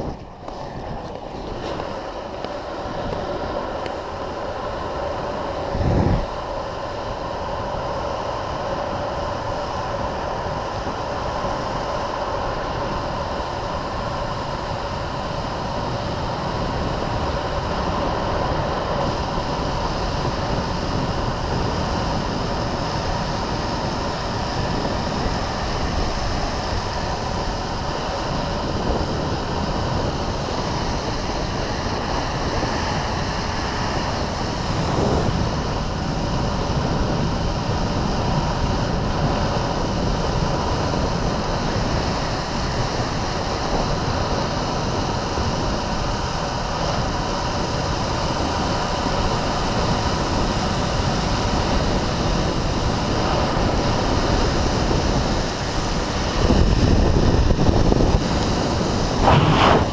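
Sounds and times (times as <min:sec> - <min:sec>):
longboard wheels rolling on asphalt: 0:00.0 - 0:59.9
wind over microphone: 0:00.0 - 0:59.9.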